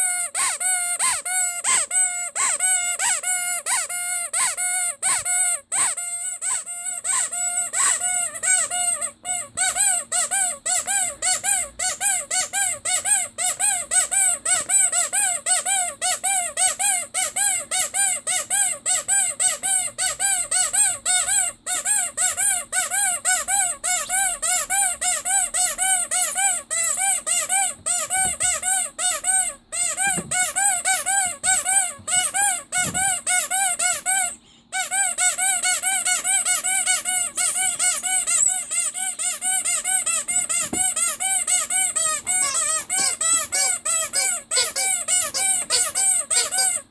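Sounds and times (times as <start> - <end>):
squeeze toy squeaking: 0.0 - 46.9.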